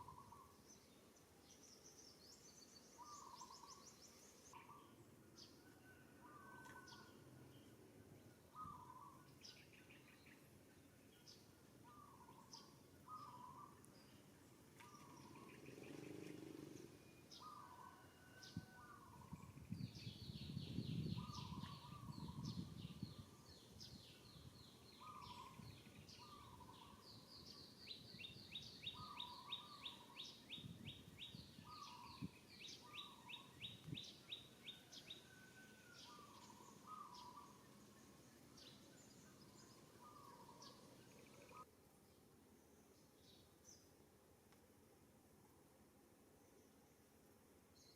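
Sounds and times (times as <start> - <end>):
faint birdsong: 0.0 - 47.9.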